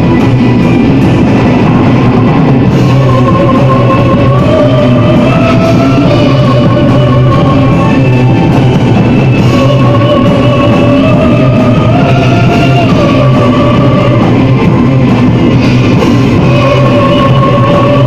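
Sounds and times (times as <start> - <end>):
metal band playing live: 0.0 - 18.0.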